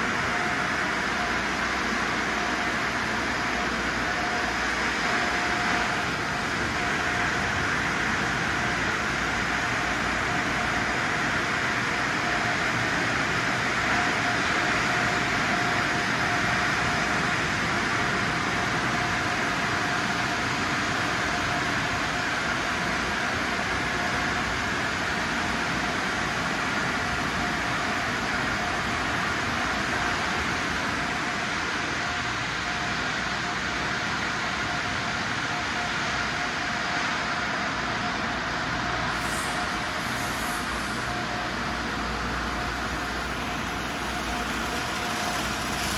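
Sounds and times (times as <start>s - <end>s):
dryer blowers rushing air: 0.0s - 45.9s
faint steady whine: 0.0s - 45.9s.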